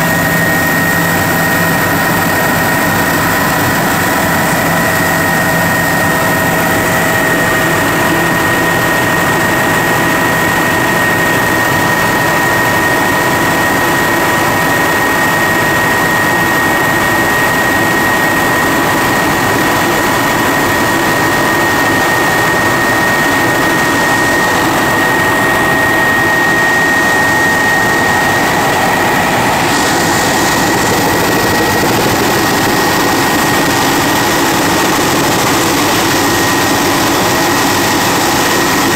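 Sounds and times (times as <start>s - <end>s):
helicopter engine and rotor drone: 0.0s - 38.9s
high whine: 0.0s - 38.9s.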